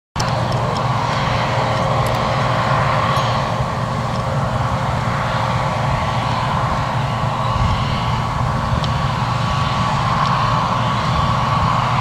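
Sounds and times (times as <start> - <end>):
tractor engine droning: 0.2 - 12.0.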